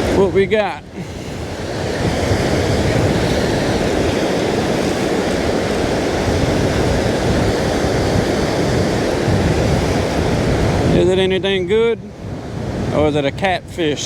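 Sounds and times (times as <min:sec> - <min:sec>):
surf breaking: 0:00.0 - 0:14.0
wind buffeting microphone: 0:00.0 - 0:14.0.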